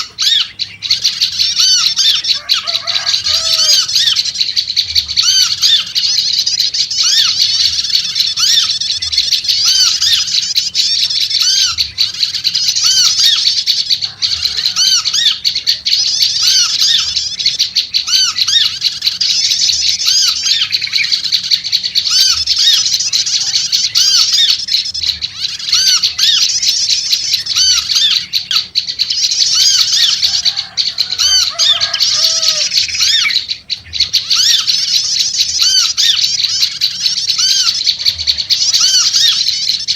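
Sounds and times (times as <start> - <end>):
high-pitched bird chatter: 0.0 - 39.9.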